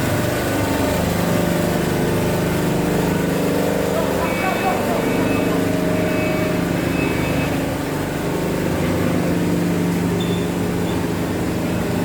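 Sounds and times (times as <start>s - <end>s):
baling press machine hum: 0.0s - 12.0s.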